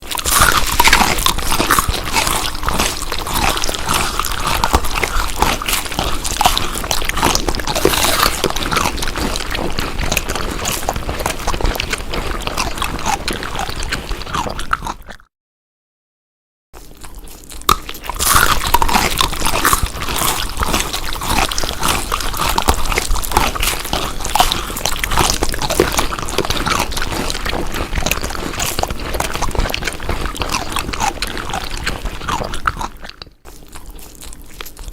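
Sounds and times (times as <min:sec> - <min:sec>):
chewing crunchy food: 0:00.0 - 0:15.3, 0:16.8 - 0:34.9.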